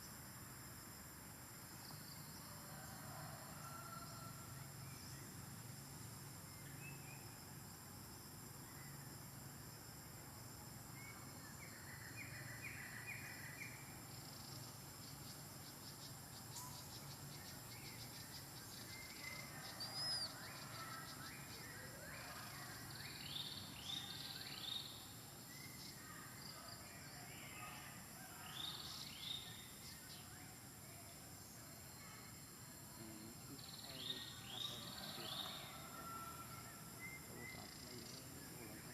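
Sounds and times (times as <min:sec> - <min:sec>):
faint insect buzz: 0:00.0 - 0:38.9.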